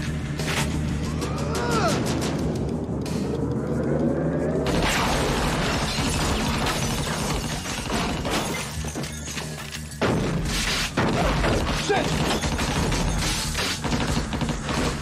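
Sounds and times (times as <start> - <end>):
film music: 0.0 - 15.0.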